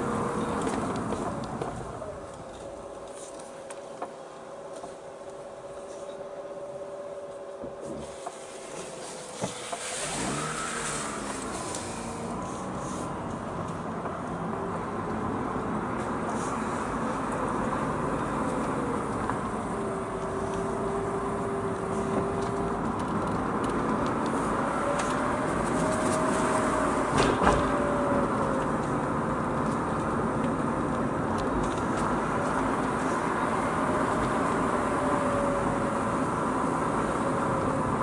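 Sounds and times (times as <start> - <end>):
road and tyre noise: 0.0 - 38.0
rotary car engine: 0.0 - 38.0.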